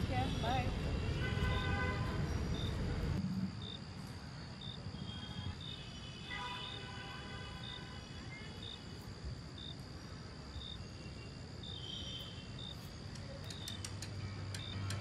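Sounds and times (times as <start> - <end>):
cricket chirps: 0.0 - 15.0
crickets trilling: 0.0 - 15.0.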